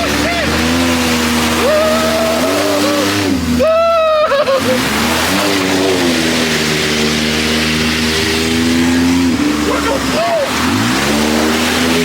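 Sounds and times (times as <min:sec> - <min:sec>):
atv engine under throttle: 0:00.0 - 0:12.0.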